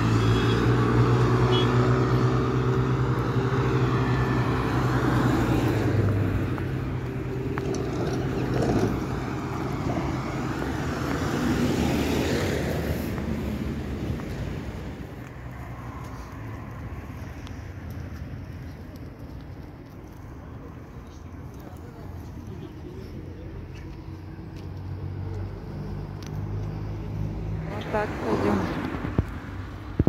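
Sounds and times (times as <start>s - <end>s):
engine hum: 0.0s - 30.0s
motor vehicles passing: 0.0s - 30.0s
road noise: 0.0s - 30.0s.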